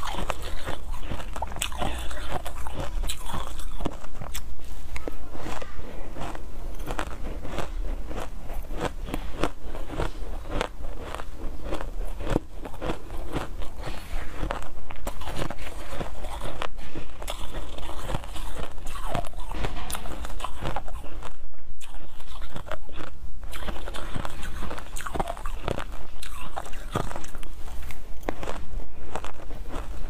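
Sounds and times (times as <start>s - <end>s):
crunching and chewing ice: 0.0s - 30.0s.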